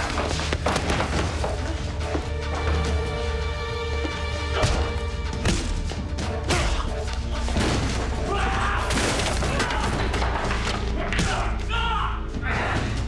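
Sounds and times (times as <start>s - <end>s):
dramatic action music: 0.0s - 13.0s.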